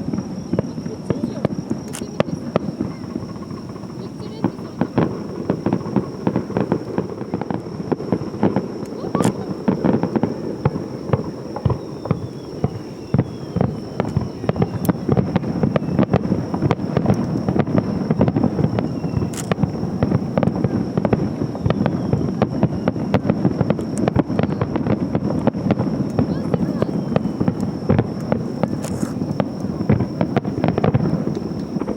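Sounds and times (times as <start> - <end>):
faint steady high tone: 0.0 - 31.9
fireworks bangs and crackles: 0.0 - 31.9.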